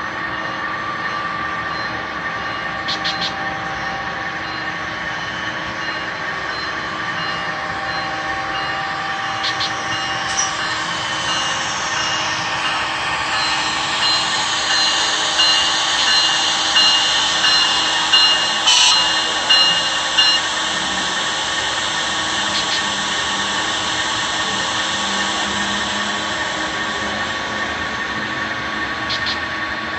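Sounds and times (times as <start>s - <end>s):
wheels rumbling on rails: 0.0s - 29.9s
model train motor whine: 5.2s - 29.6s.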